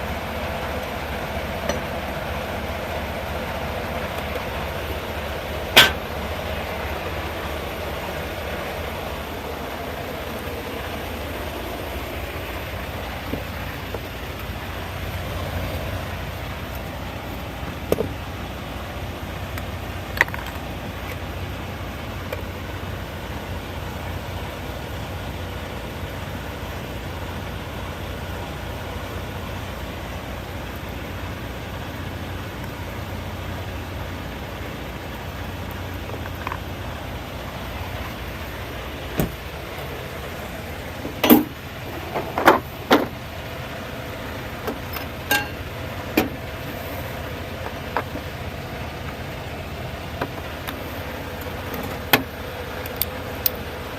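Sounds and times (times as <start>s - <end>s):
vehicle engine idling: 0.0s - 53.9s.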